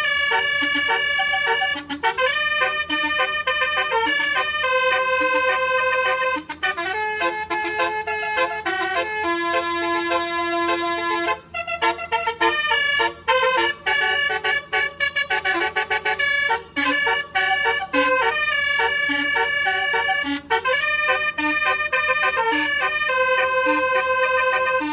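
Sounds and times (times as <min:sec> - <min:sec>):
musical air horn tune: 0:00.0 - 0:24.9.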